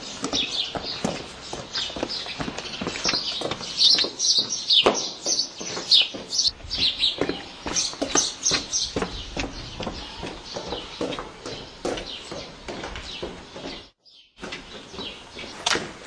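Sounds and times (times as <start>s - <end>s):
footsteps on cobblestones: 0.0s - 16.0s
small birds chirping: 0.0s - 16.0s.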